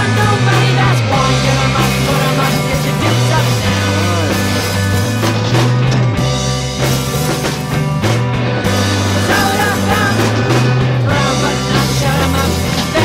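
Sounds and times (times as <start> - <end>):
prominent bass line: 0.0 - 13.0
rock music: 0.0 - 13.0.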